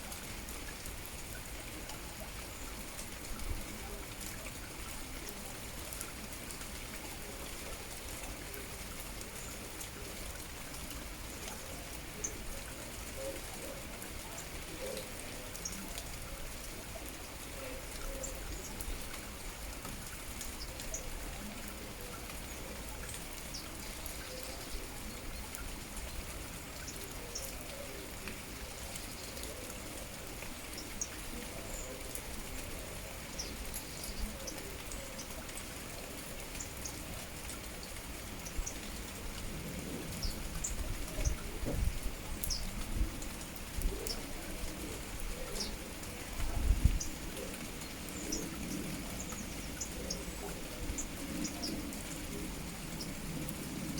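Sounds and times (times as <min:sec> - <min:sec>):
rain drops pattering: 0:00.0 - 0:53.9.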